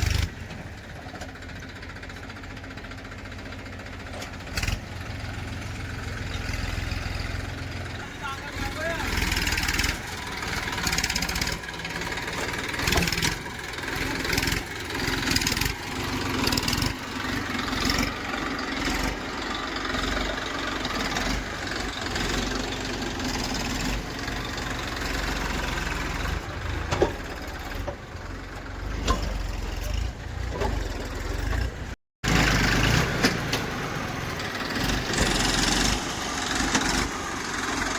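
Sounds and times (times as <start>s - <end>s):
diesel machinery engine running: 0.0s - 37.9s.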